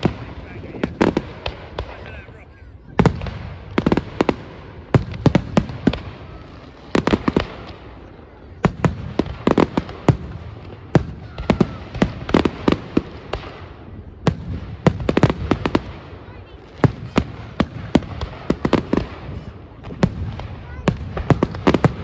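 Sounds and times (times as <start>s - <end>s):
fireworks bangs and crackling: 0.0s - 22.0s
fireworks hissing and fizzing: 0.0s - 22.0s.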